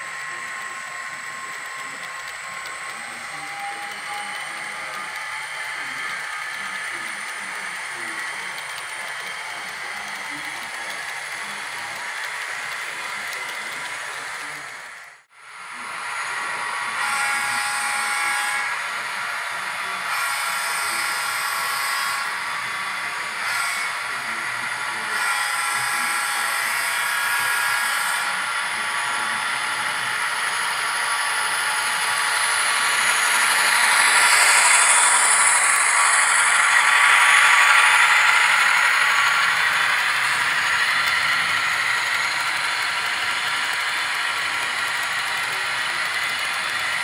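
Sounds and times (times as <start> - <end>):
model train wheels rattling on rails: 0.0 - 15.1, 18.2 - 47.0.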